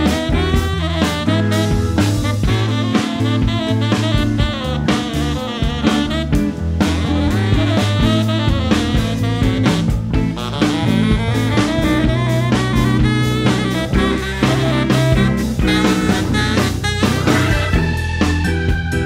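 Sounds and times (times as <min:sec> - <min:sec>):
bass guitar: 0:00.0 - 0:19.0
drum kit beat: 0:00.0 - 0:19.0
tenor saxophone solo: 0:00.0 - 0:19.0.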